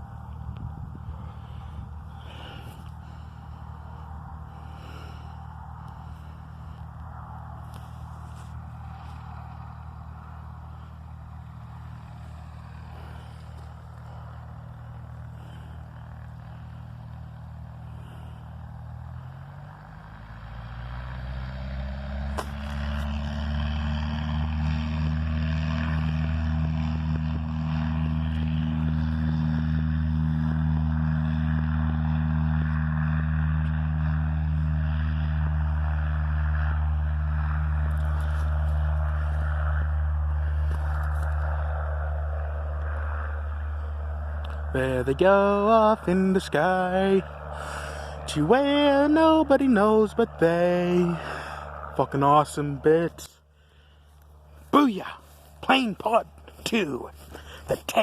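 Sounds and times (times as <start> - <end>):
small plane engine running: 0.0 - 58.0.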